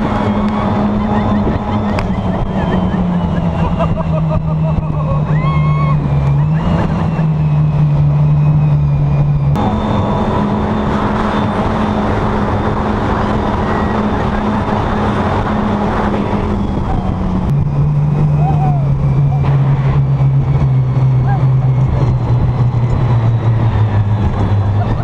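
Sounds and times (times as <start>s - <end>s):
speedboat engine drone: 0.0s - 25.0s.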